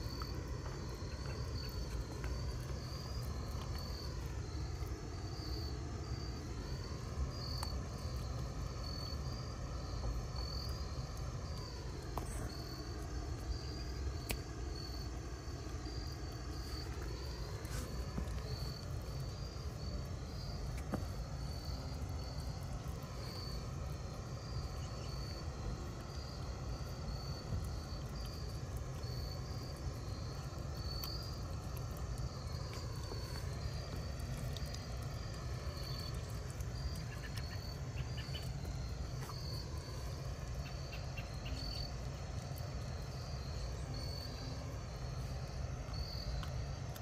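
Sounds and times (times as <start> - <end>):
insects chirping: 0.0 - 47.0
low background rumble: 0.0 - 47.0.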